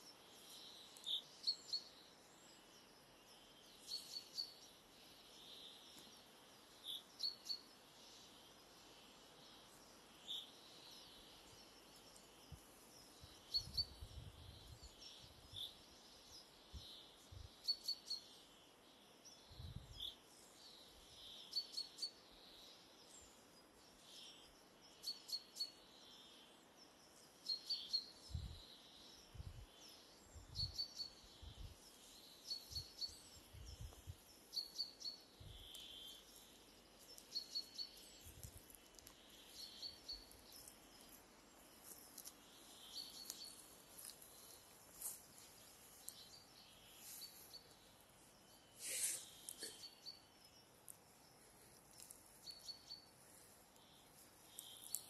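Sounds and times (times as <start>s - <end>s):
faint steady hiss: 0.0s - 55.0s
small birds chirping: 0.0s - 55.0s.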